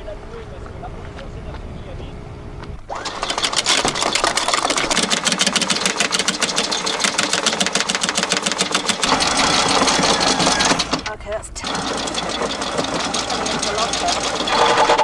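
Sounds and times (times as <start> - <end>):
windlass motor whining: 0.0 - 15.0
anchor chain clattering: 2.9 - 15.0.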